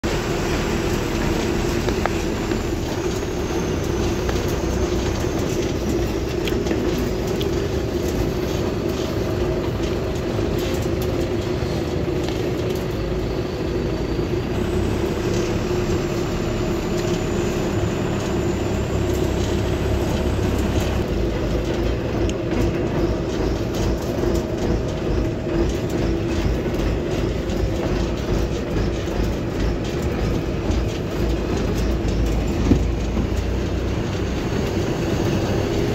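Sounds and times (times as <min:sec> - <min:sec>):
droning hum: 0:00.0 - 0:35.9
steady rumbling: 0:00.0 - 0:35.9.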